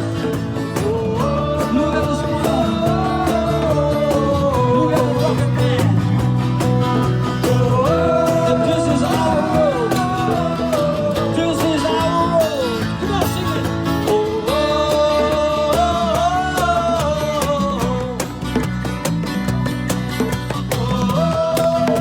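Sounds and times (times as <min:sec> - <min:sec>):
strummed acoustic guitar: 0:00.0 - 0:22.0.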